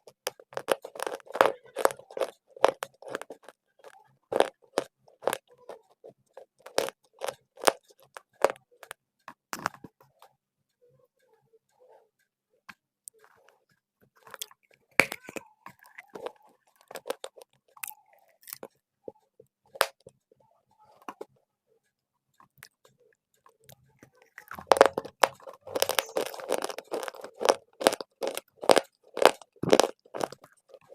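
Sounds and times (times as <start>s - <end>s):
crunching and chewing dry clay: 0.0s - 10.3s, 13.1s - 21.4s, 22.3s - 30.9s.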